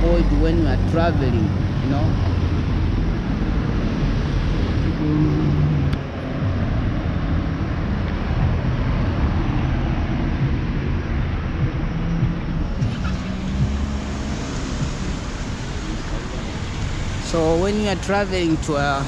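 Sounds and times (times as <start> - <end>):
road traffic rumble: 0.0 - 19.0
vehicle engine passing: 0.0 - 19.0.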